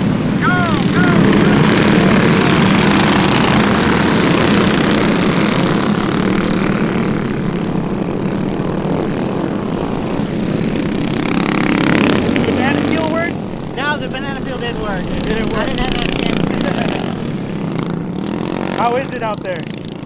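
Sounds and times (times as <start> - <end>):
minibike engines buzzing: 0.0 - 20.0.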